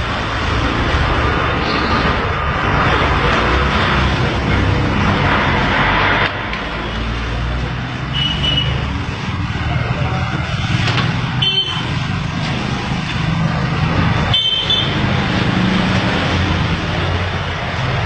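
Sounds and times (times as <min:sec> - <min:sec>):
road traffic with engines: 0:00.0 - 0:18.0.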